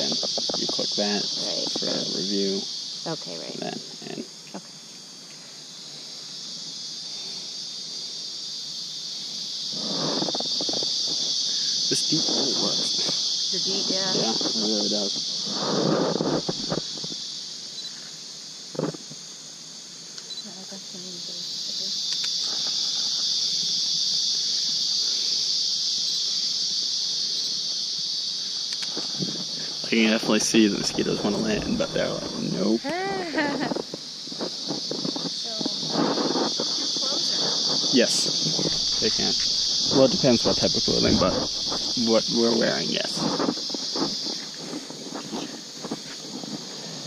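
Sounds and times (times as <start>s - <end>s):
shrill insect chorus: 0.0s - 47.0s.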